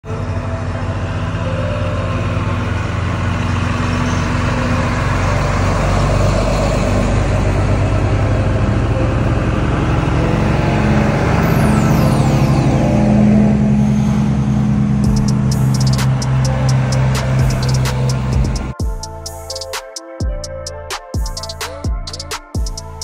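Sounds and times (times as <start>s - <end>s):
truck engines rolling past: 0.0s - 19.7s.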